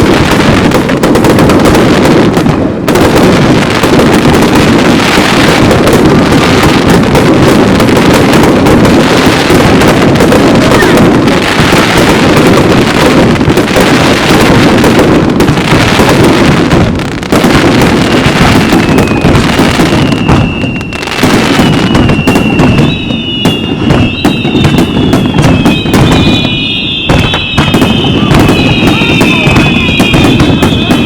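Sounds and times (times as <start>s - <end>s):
firework whistles gliding downward: 0.0s - 31.0s
fireworks booming and crackling: 0.0s - 31.0s
sharp crackles and pops: 0.0s - 31.0s.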